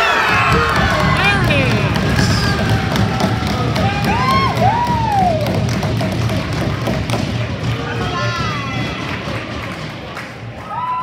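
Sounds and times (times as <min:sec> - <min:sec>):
crowd cheering: 0:00.0 - 0:11.0.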